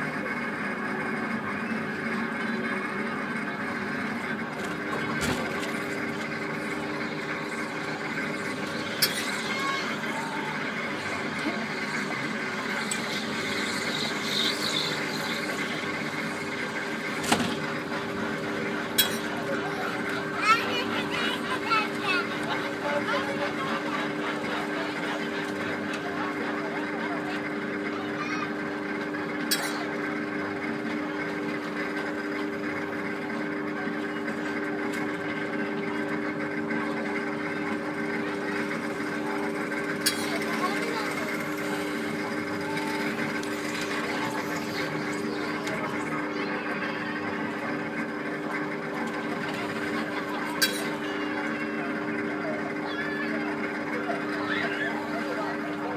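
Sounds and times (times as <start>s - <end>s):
ride car drive unit humming: 0.0s - 55.9s.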